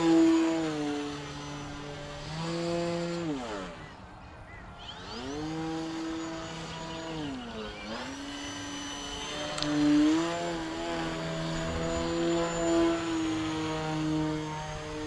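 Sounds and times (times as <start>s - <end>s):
model plane motor whining: 0.0s - 4.0s, 4.8s - 15.0s.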